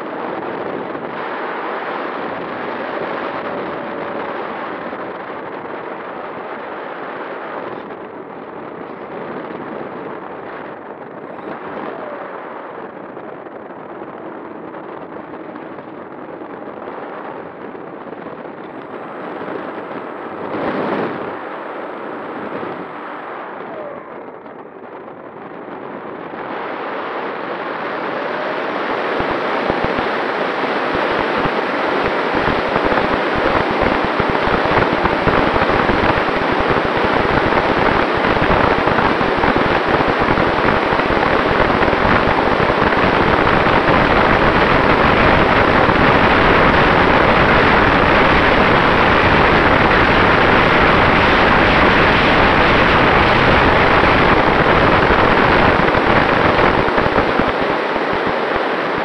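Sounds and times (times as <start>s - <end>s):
wind rushing past camera: 0.0s - 59.0s.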